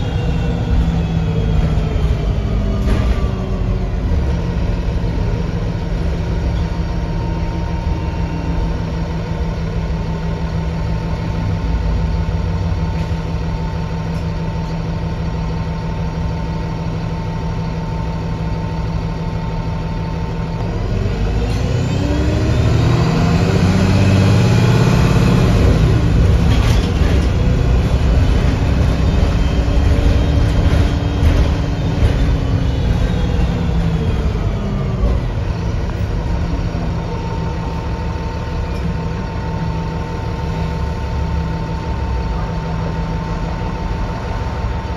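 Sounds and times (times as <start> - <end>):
bus engine idling and accelerating: 0.0 - 44.9.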